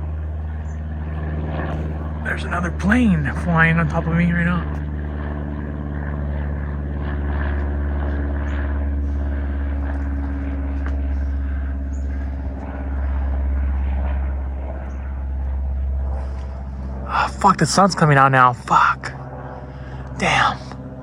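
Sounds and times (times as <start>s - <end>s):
airplane engine drone: 0.0s - 21.0s.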